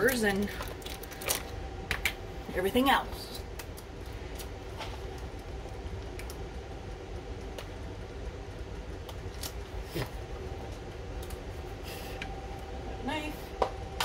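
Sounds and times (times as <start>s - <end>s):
air fryer fan hum: 0.0s - 14.0s.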